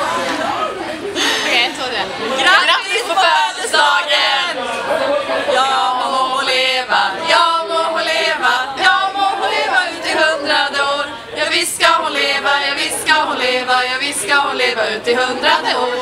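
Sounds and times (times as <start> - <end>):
women singing together: 2.3 - 16.0.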